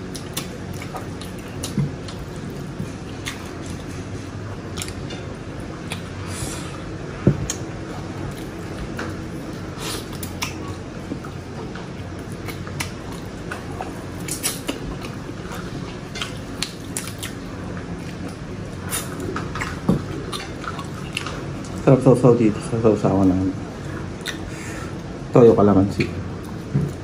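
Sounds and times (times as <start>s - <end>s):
chewing and mouth sounds: 0.0s - 21.8s, 23.2s - 25.1s.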